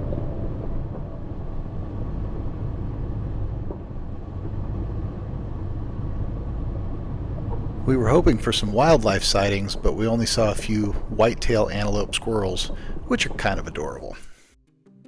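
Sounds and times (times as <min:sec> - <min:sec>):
vehicle rumbling on dirt trail: 0:00.0 - 0:14.2.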